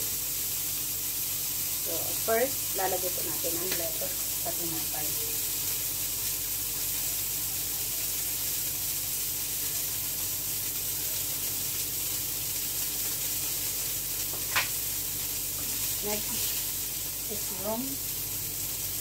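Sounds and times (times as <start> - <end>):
food sizzling in a pan: 0.0 - 19.0
low kitchen hum: 0.0 - 19.0.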